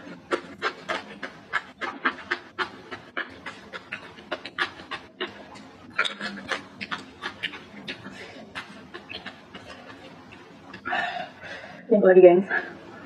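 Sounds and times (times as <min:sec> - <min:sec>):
person chewing food: 0:00.0 - 0:11.8.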